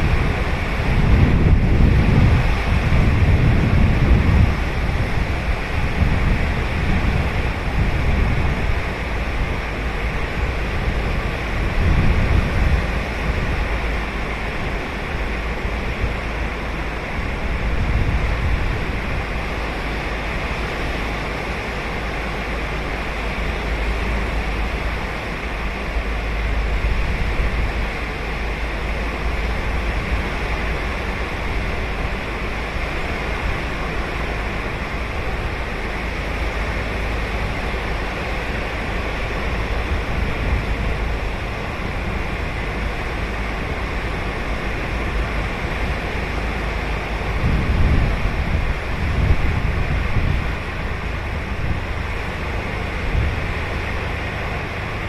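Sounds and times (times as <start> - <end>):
ocean surf washing onto beach: 0.0 - 55.0
wind rumble on microphone: 0.0 - 55.0.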